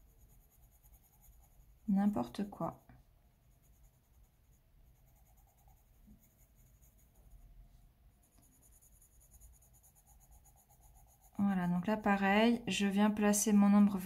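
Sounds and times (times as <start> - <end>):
pencil scratching on paper: 0.0 - 7.5, 8.1 - 12.6.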